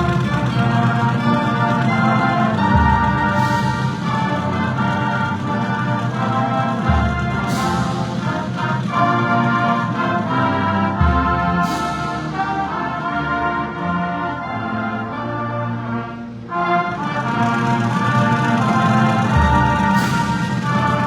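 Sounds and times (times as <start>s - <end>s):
marching band brass chords: 0.0s - 21.0s.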